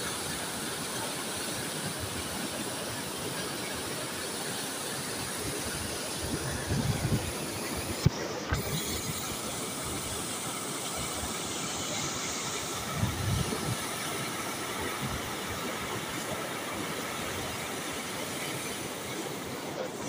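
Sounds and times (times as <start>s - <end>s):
river rushing whitewater: 0.0s - 20.0s.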